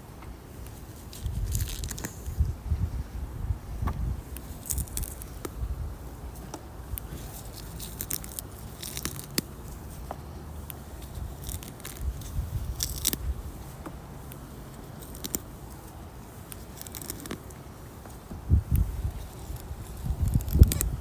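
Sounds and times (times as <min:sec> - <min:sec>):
roots crackling and snapping: 0:00.6 - 0:02.5, 0:03.8 - 0:21.0.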